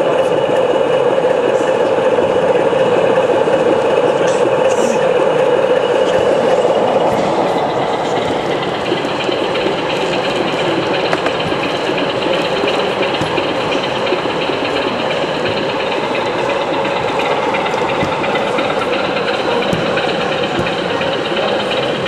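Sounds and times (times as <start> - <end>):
hubbub of crowd indoors: 0.0 - 22.0.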